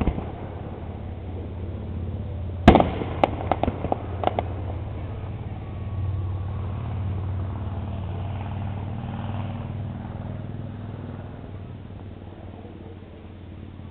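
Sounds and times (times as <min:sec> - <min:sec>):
low engine-like rumble: 0:00.0 - 0:13.9.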